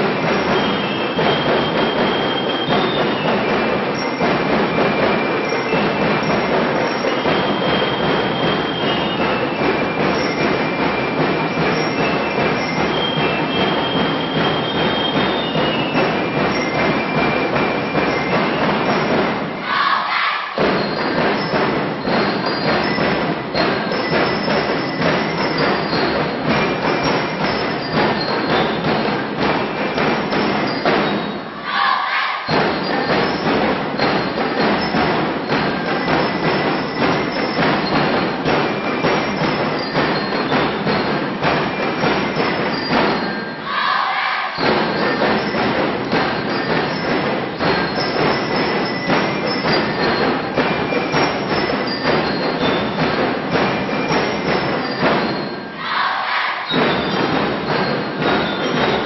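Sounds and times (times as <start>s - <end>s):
rapid dense drumming: 0.0s - 59.0s.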